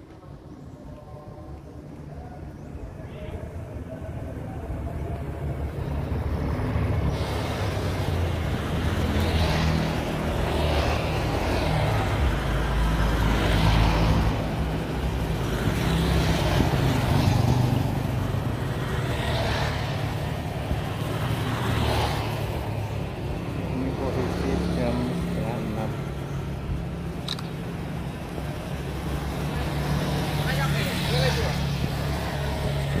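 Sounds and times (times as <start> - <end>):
cars passing: 0.0 - 33.0
vehicle engines running: 0.0 - 33.0.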